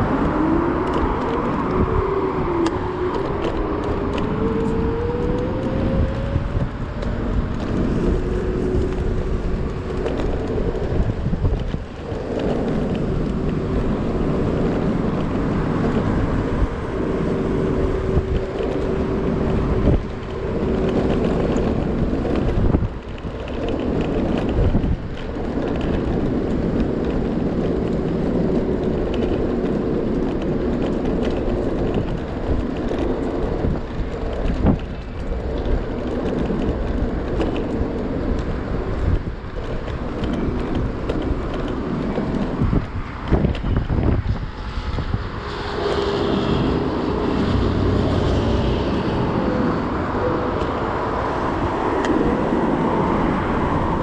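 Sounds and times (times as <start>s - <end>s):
electric scooter hum: 0.0s - 54.0s
road rumble: 0.0s - 54.0s
wind buffeting microphone: 0.0s - 54.0s.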